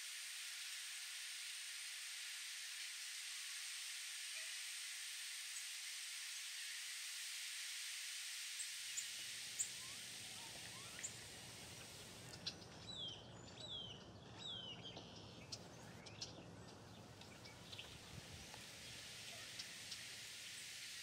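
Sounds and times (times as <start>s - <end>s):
background hiss: 0.0s - 13.9s, 14.5s - 21.0s.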